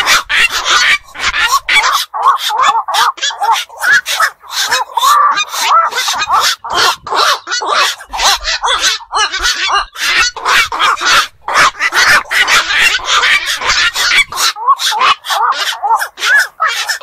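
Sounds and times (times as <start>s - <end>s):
herons making harsh bark-like calls: 0.0s - 17.0s.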